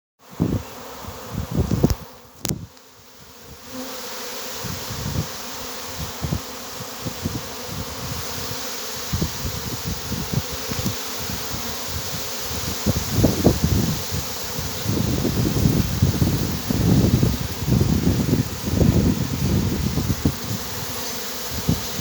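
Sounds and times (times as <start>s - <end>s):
bee swarm buzzing: 0.2s - 22.0s.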